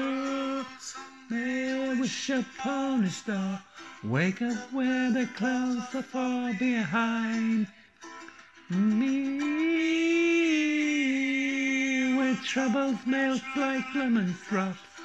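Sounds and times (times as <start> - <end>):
man singing slow melody: 0.0 - 7.8, 8.7 - 15.0.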